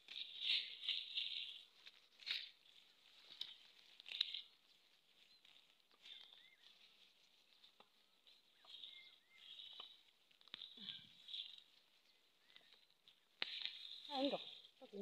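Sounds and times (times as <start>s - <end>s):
rustling leaves and soil: 0.0s - 15.0s.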